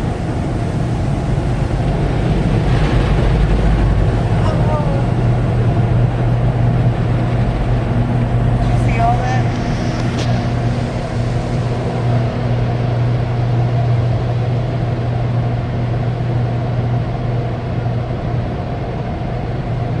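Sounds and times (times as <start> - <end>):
car wash machinery humming: 0.0 - 20.0.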